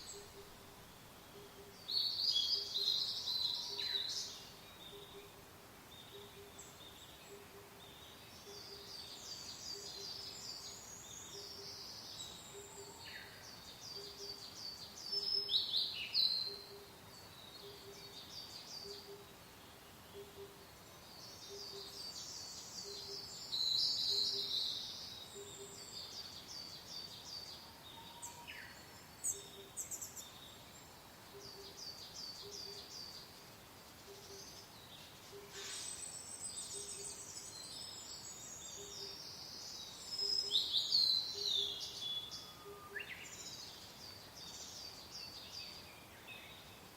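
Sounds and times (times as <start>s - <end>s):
soft wind hiss: 0.0s - 46.9s
songbirds chirping: 0.0s - 46.9s.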